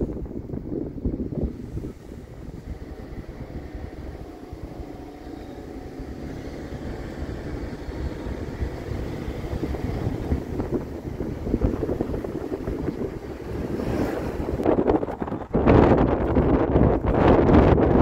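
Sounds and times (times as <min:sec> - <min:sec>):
vehicle road noise rumble: 0:00.0 - 0:18.0
wind buffeting microphone: 0:00.0 - 0:18.0.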